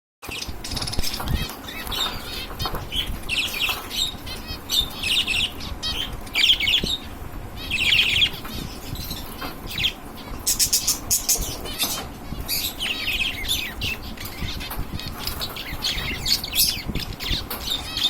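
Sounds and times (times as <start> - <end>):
finches chirping: 0.3 - 18.0.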